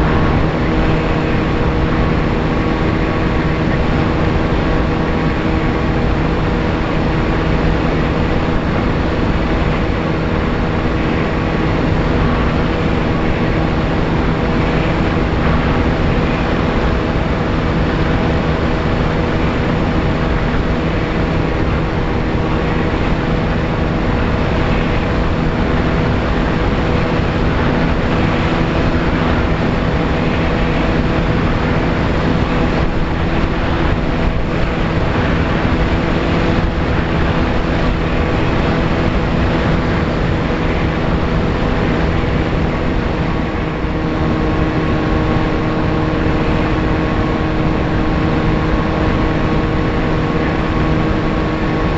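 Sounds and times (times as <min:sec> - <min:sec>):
electric motor and propeller: 0:00.0 - 0:51.9
wind rushing on microphone: 0:00.0 - 0:51.9.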